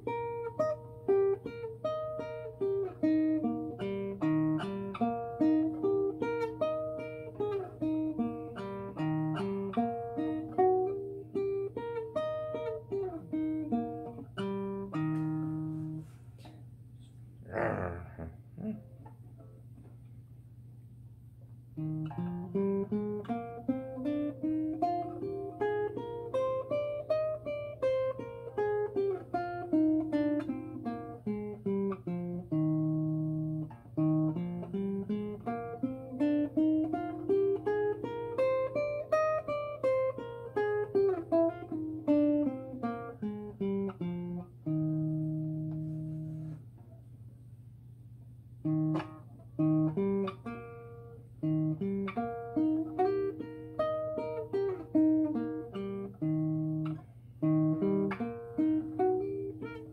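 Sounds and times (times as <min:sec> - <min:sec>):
classical guitar plucked scale: 0:00.0 - 0:16.2, 0:21.7 - 0:46.6, 0:48.6 - 0:59.9.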